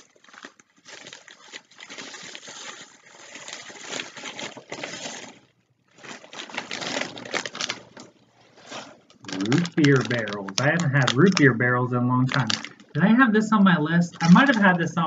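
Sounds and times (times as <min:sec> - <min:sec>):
tissue paper rustling: 0:00.0 - 0:11.6, 0:14.1 - 0:15.0.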